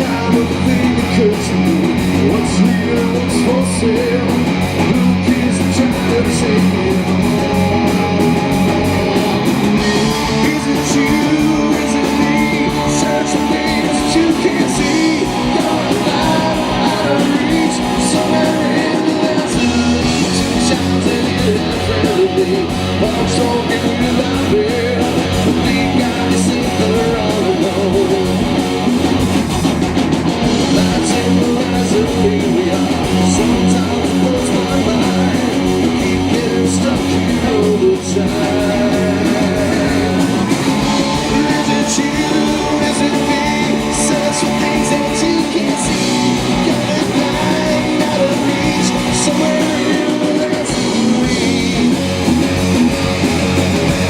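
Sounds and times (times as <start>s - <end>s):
electric guitars: 0.0s - 54.0s
live rock band playing: 0.0s - 54.0s.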